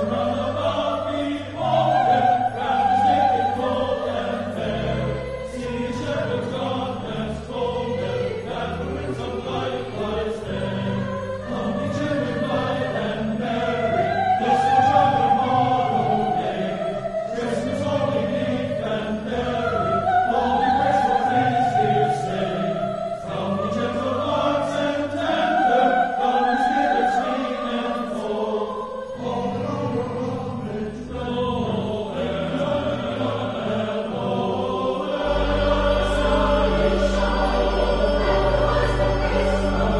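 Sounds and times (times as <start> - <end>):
choir singing: 0.0 - 39.9
low accompanying notes: 0.0 - 39.9.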